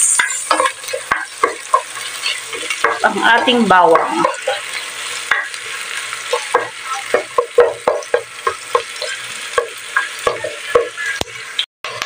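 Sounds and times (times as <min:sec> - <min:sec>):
onion sizzling in hot oil: 0:00.0 - 0:12.0
spatula scraping and tapping pan: 0:00.0 - 0:12.0.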